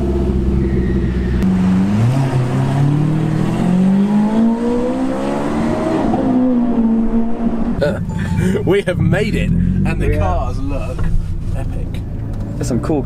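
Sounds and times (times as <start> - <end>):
car engine accelerating hard: 0.0 - 11.9.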